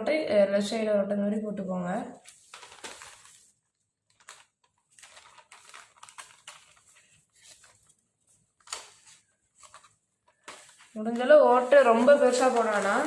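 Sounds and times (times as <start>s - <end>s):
paper crinkling and rustling: 2.2s - 13.0s.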